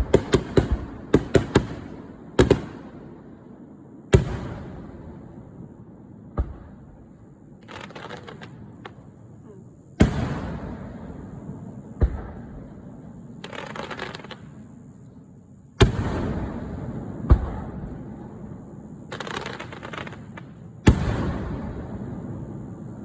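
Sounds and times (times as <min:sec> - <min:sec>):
fireworks booming: 0:00.0 - 0:14.8, 0:15.8 - 0:23.0
fireworks crackling: 0:00.0 - 0:15.1, 0:15.8 - 0:23.0.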